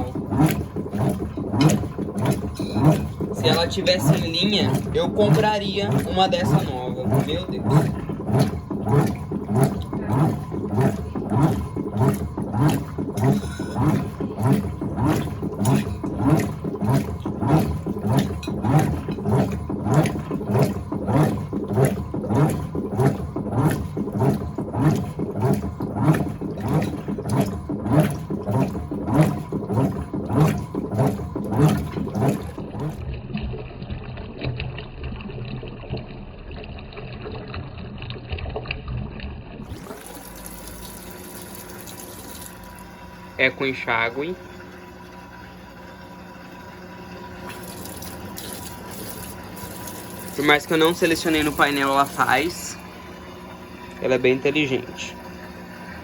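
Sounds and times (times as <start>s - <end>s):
running water: 0.0s - 56.0s
washing machine sloshing: 0.0s - 56.0s.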